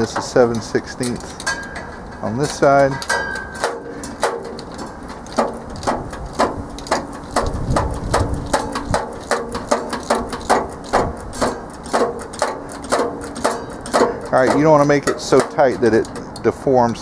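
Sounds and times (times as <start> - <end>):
metal housing ringing: 0.0 - 17.0
wrench clicking on bolt: 0.0 - 17.0.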